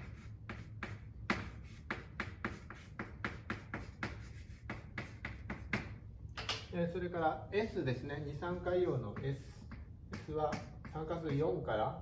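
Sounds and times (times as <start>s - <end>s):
chalk tapping and scraping: 0.0s - 6.0s, 8.2s - 11.9s.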